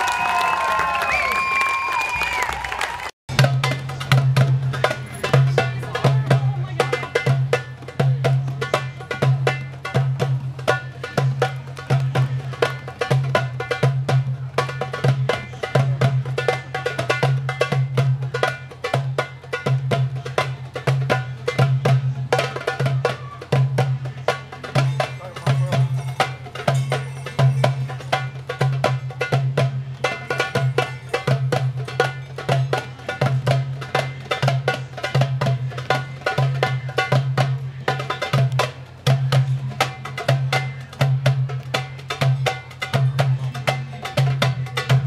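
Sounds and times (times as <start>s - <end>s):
goblet drum playing: 3.3s - 45.0s.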